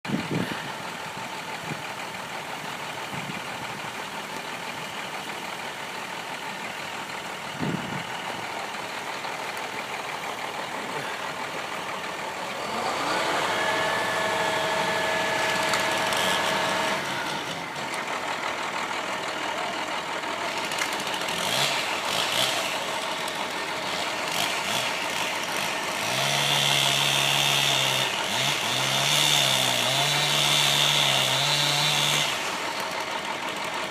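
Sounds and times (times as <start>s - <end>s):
machine engines running: 0.1s - 29.0s, 30.6s - 33.9s
deep droning engine: 0.1s - 29.1s.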